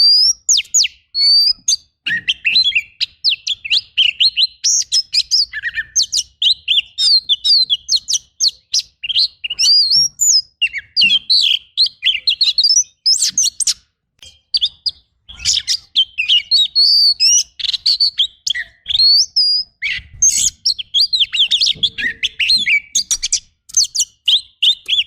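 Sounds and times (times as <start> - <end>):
bird singing whistled song: 0.0 - 25.0.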